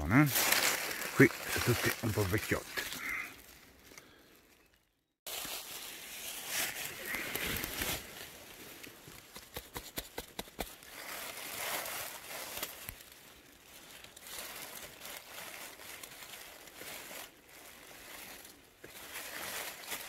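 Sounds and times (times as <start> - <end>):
rustling and crunching dry leaves: 0.0 - 20.0
small crackles: 0.2 - 20.0.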